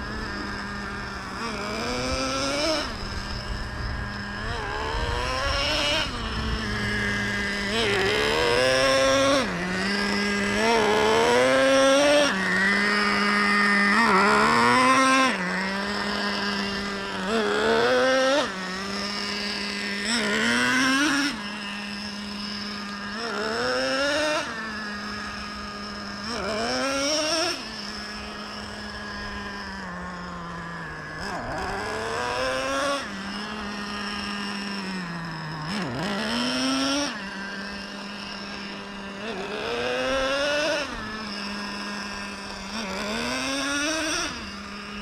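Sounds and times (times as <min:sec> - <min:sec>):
model engine revving and idling: 0:00.0 - 0:45.0.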